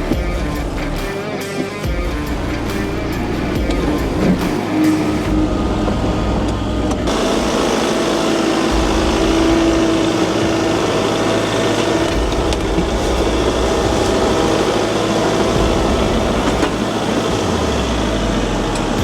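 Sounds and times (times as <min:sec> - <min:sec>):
tractor diesel engine running: 0:00.0 - 0:19.0
box blade grading dirt: 0:00.8 - 0:19.0.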